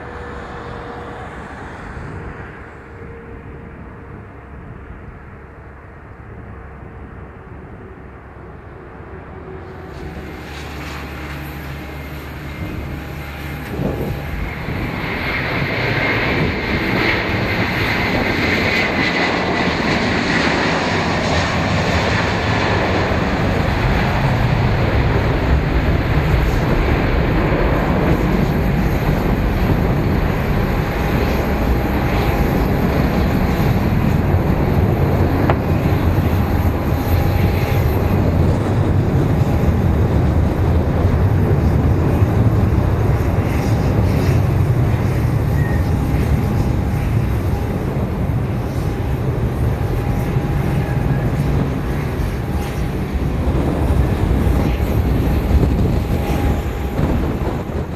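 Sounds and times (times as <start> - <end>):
high engine whine: 0.0 - 57.9
jet engines rumbling: 0.0 - 57.9.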